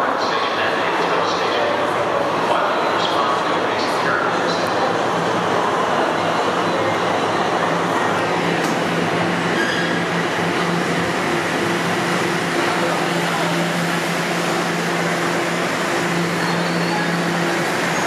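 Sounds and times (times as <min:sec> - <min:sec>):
subway train rushing hum: 0:00.0 - 0:18.0.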